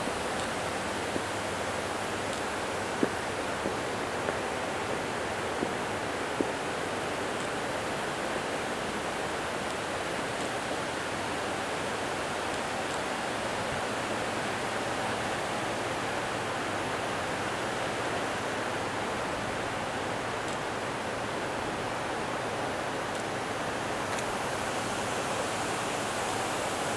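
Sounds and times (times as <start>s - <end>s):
running water rushing: 0.0s - 26.9s.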